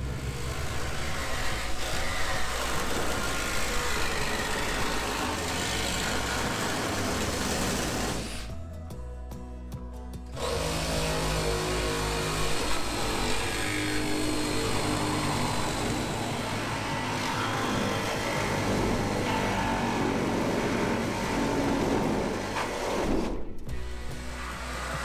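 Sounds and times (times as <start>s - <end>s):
power tool noise: 0.0s - 8.5s, 10.4s - 25.0s
reciprocating saw cutting sheet metal: 0.0s - 8.5s, 10.4s - 25.0s
background music: 0.0s - 25.0s.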